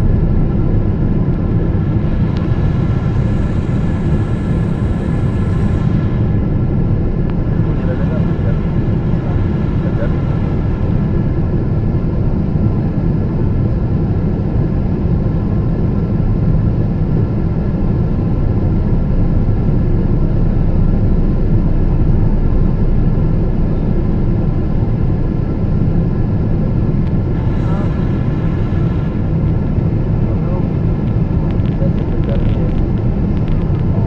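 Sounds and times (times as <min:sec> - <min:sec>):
faint steady hum: 0:00.0 - 0:13.9, 0:19.2 - 0:34.0
engines and rushing air rumble: 0:00.0 - 0:34.0.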